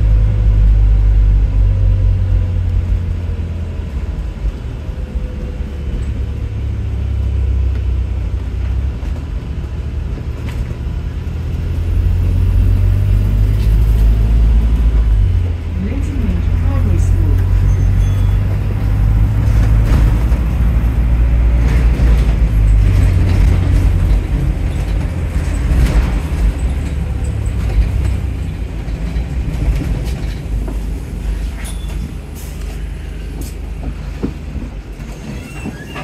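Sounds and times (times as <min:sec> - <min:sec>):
bus low rumble: 0:00.0 - 0:36.0.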